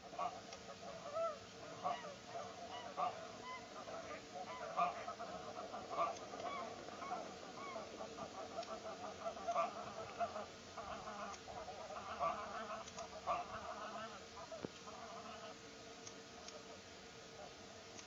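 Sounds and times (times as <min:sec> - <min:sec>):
waterbirds calling: 0:00.0 - 0:15.6.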